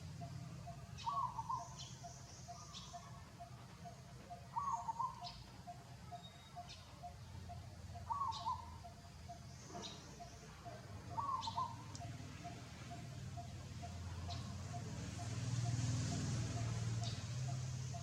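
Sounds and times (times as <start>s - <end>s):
bird warbled call: 0.2s - 18.0s.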